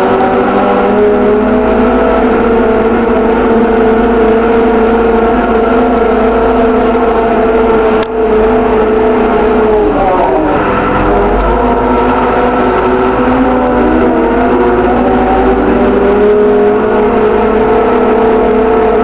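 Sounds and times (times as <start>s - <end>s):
diesel engine at high revs: 0.0s - 19.0s.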